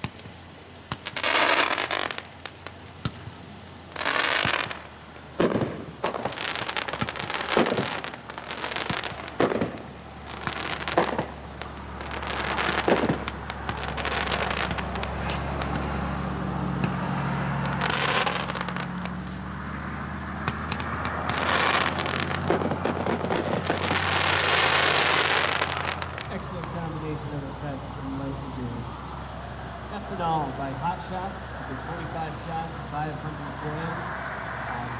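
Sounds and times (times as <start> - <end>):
distant fireworks booming: 0.0 - 34.9
fireworks crackling: 0.0 - 34.9.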